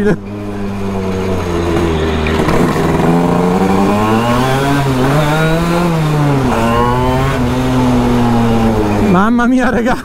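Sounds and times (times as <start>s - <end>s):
two-stroke engine accelerating hard: 0.0s - 10.0s.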